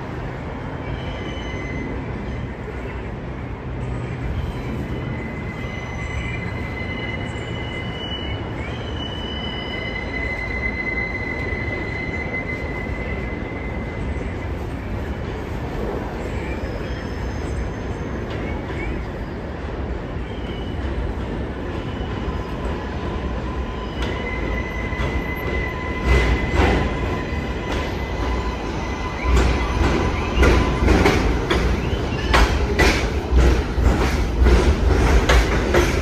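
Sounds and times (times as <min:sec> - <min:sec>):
rumble of wheels on rail: 0:00.0 - 0:36.0.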